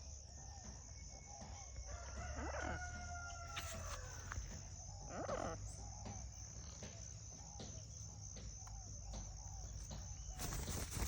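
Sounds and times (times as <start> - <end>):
soft insect chirps: 0.0 - 11.0
insect chirring: 1.7 - 11.0.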